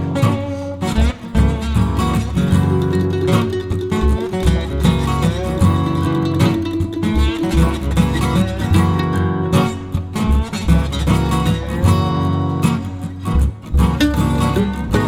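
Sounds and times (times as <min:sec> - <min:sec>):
acoustic guitar strummed and plucked: 0:00.0 - 0:15.0.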